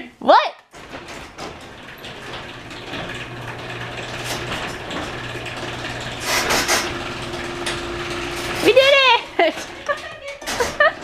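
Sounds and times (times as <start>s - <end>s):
garage door opener motor hum: 0.7s - 11.0s
garage door rattle: 0.7s - 11.0s.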